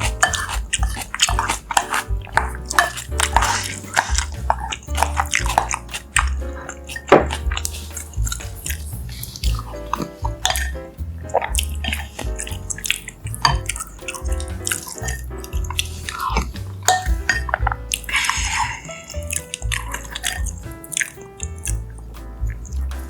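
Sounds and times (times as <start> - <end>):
wet chewing: 0.0 - 23.0.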